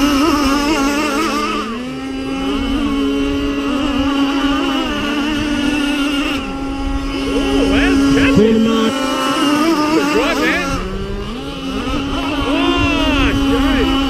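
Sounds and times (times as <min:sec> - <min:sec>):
model powerboat engines droning: 0:00.0 - 0:14.0.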